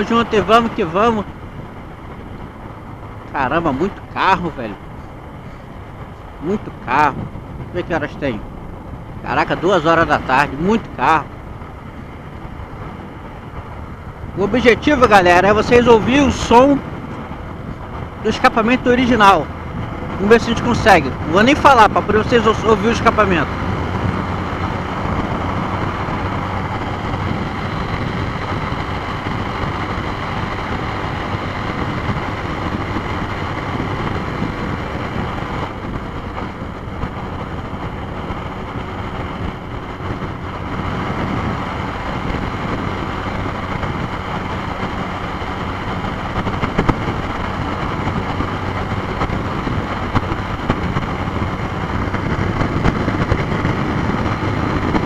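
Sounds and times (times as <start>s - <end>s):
motorcycle engine at speed: 0.0s - 55.0s
wind rush on microphone: 0.0s - 55.0s.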